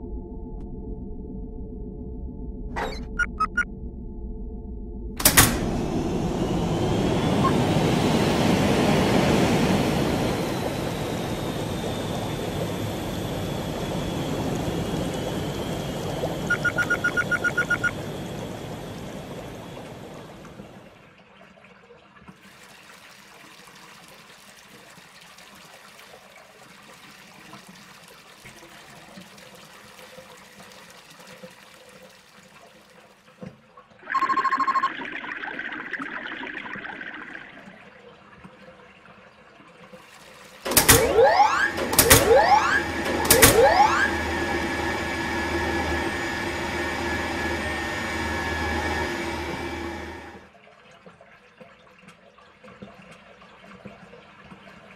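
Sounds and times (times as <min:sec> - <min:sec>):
water rushing through pipe: 0:05.2 - 0:54.9.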